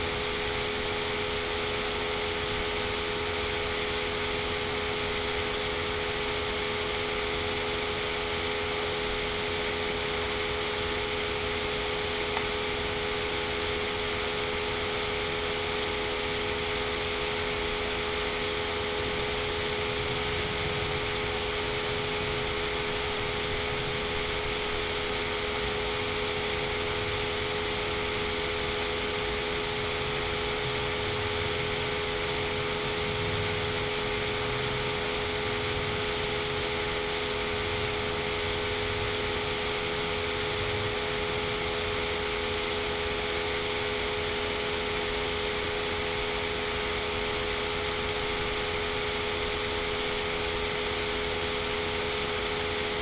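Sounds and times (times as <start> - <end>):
background hum and hiss: 0.0 - 53.0.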